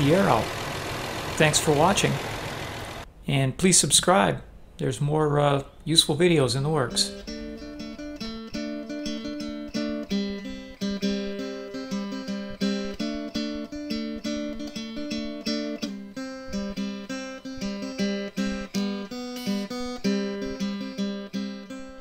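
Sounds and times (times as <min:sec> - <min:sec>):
acoustic guitar strumming: 0:00.0 - 0:03.0, 0:06.9 - 0:22.0.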